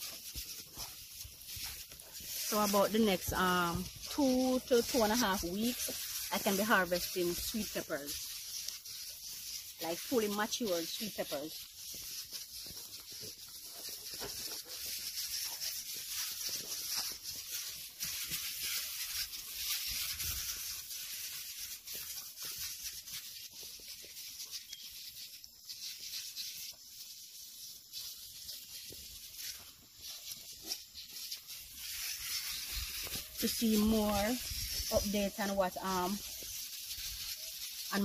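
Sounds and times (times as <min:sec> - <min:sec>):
sprayer nozzle hissing: 0:00.0 - 0:38.0.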